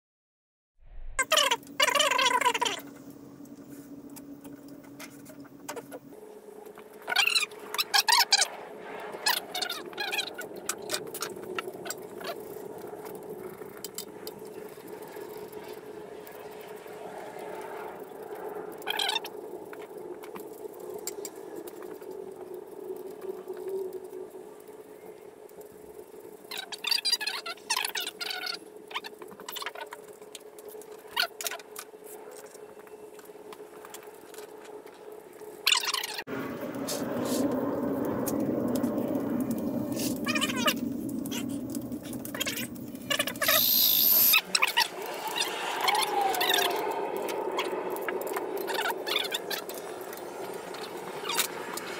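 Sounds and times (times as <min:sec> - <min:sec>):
steady background hum: 0:01.2 - 0:51.9.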